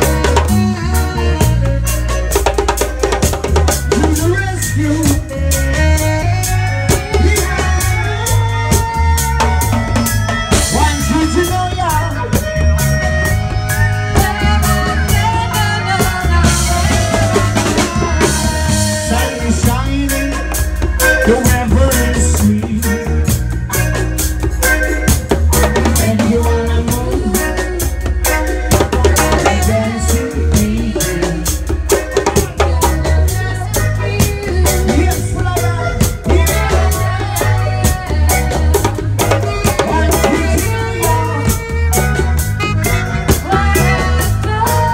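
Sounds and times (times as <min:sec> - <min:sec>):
bass guitar line: 0:00.0 - 0:44.9
drum kit beat: 0:00.0 - 0:44.9
keyboard: 0:00.0 - 0:44.9
melodica: 0:00.0 - 0:44.9
saxophone: 0:00.0 - 0:44.9.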